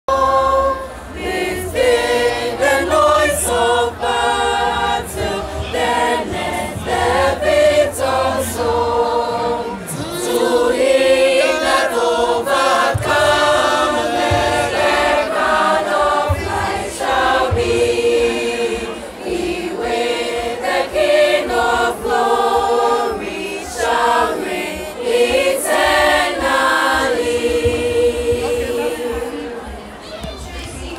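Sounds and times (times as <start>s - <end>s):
girls' choir singing: 0.1s - 30.0s.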